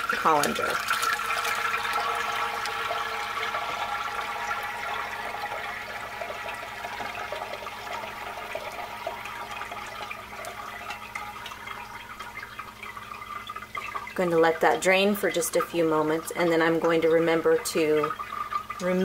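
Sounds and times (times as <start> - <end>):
liquid splashing and draining: 0.0 - 19.0.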